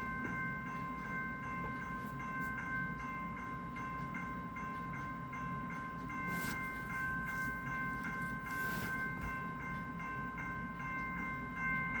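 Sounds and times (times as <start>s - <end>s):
electronic bell ringing: 0.0s - 12.0s.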